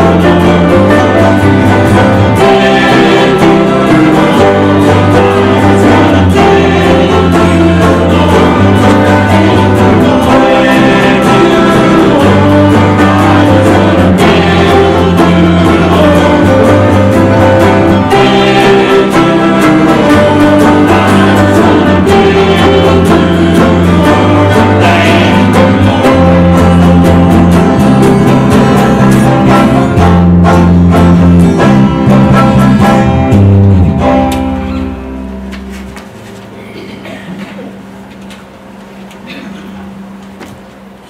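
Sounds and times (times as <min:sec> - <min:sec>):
bass guitar: 0:00.0 - 0:41.0
guitar chords: 0:00.0 - 0:41.0.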